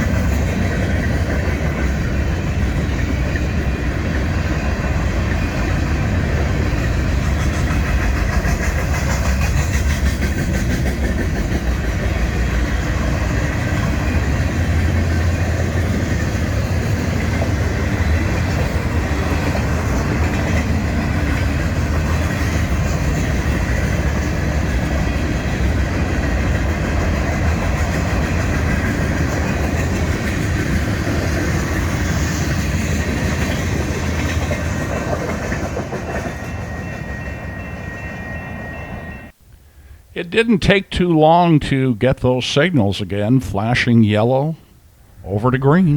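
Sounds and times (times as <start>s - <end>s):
train rumbling past: 0.0s - 45.9s.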